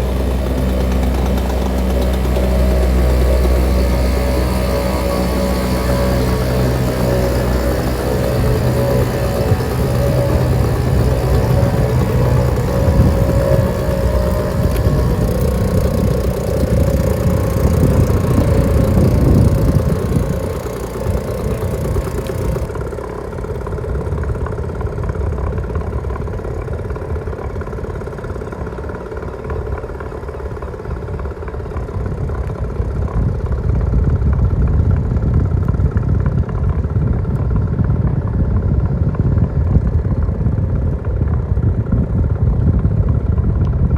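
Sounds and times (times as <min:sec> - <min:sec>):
outboard motors running: 0:00.0 - 0:43.9.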